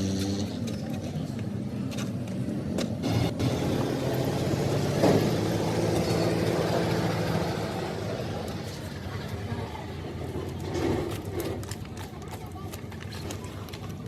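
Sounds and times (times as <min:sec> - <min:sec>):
engine running: 0:00.0 - 0:11.8.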